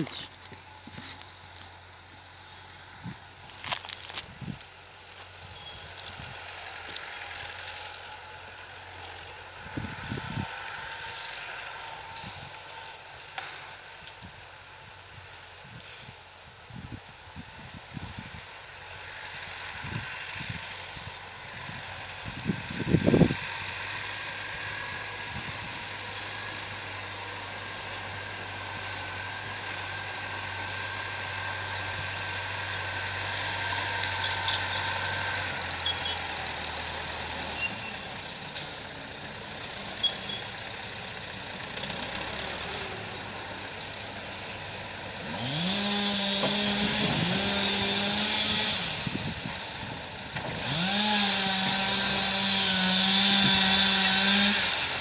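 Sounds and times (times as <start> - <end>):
engine running and revving: 0.0 - 16.1, 17.4 - 55.0.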